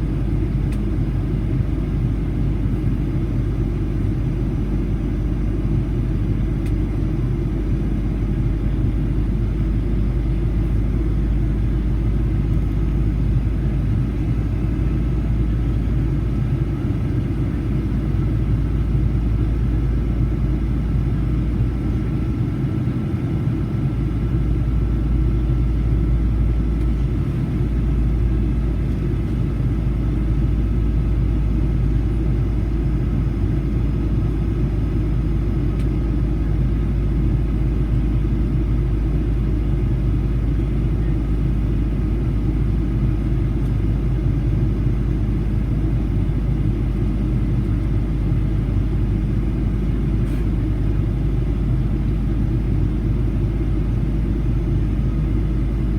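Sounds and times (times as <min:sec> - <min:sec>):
airplane engines rumbling: 0:00.0 - 0:55.9
faint steady whine: 0:00.0 - 0:55.9.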